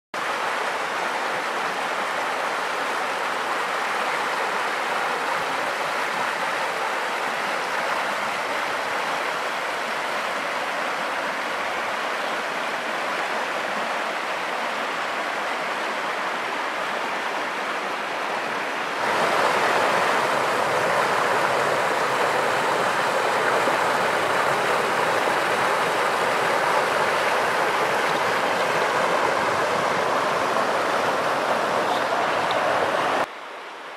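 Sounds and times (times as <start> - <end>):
river rushing over rocks: 0.2 - 33.9.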